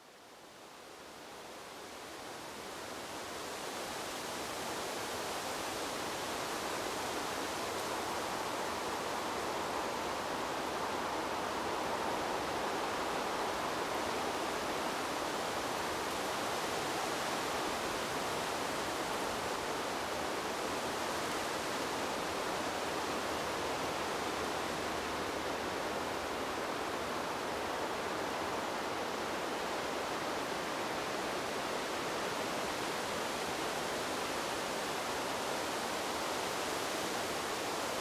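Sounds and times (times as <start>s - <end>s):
wind blowing through trees: 0.0s - 38.0s.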